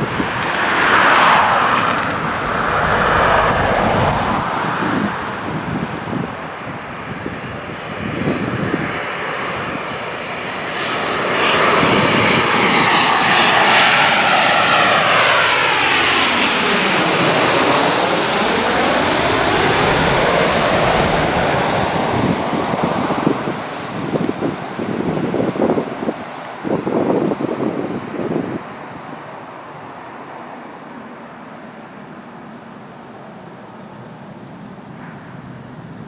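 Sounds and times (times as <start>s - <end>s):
airliner passing overhead: 0.0s - 36.0s.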